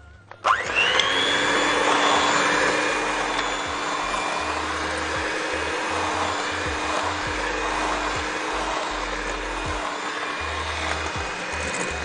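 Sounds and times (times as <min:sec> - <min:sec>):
electric mixer whine: 0:00.4 - 0:12.0.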